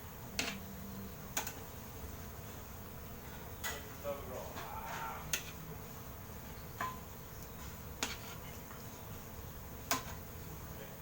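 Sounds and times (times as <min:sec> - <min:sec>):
faint background buzz: 0:00.0 - 0:11.0.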